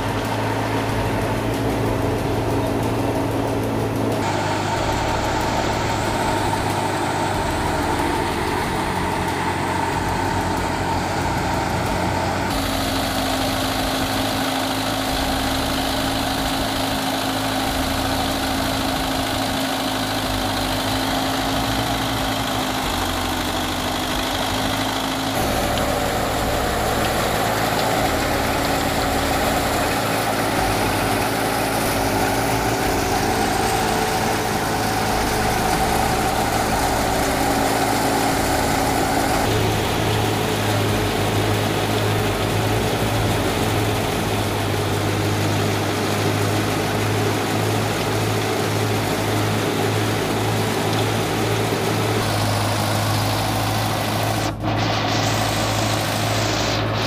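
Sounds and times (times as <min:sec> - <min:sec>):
thresher and tractor engine drone: 0:00.0 - 0:57.0.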